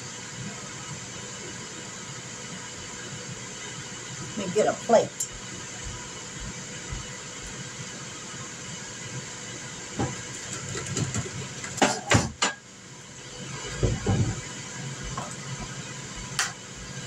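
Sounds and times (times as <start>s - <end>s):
grill fan whirring: 0.0s - 17.0s.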